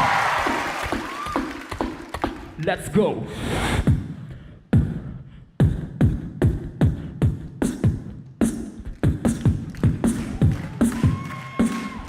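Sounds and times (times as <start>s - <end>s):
person beatboxing: 0.9s - 12.0s.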